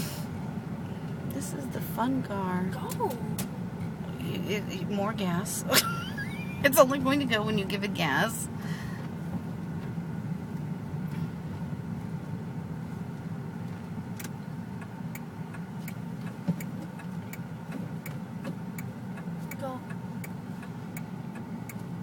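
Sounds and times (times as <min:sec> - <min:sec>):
car engine low hum: 0:00.0 - 0:22.0.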